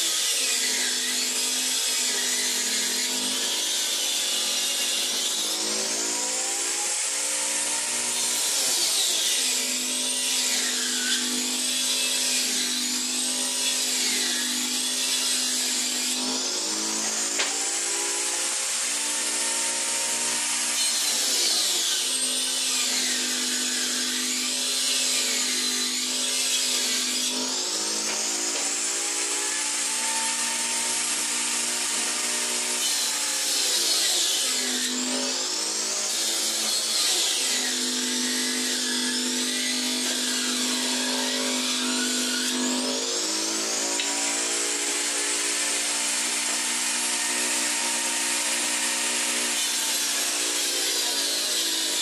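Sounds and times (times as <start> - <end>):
table saw cutting board: 0.0 - 52.0.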